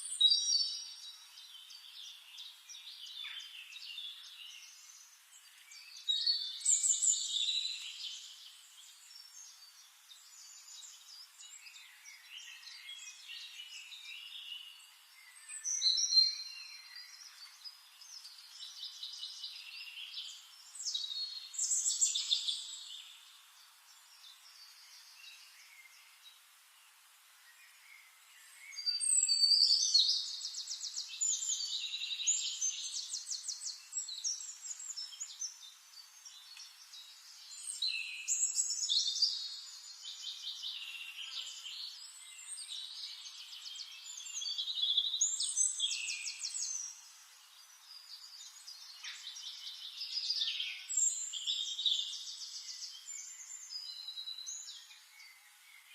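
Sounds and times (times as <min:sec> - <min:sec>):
songbirds singing with trills: 0:00.0 - 0:55.9.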